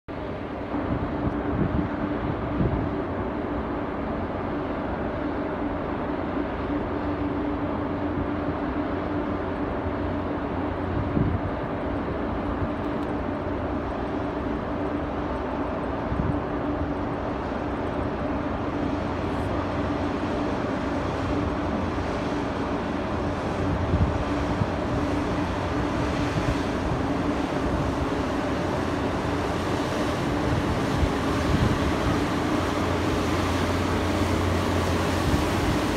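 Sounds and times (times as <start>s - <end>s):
ship machinery drone: 0.1s - 35.9s
wind buffeting microphone: 0.1s - 35.9s.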